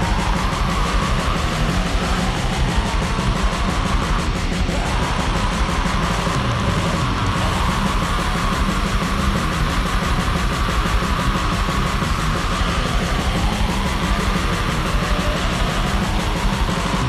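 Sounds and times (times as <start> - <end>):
distorted guitar riffing: 0.0 - 17.0
fast drumming: 0.0 - 17.0.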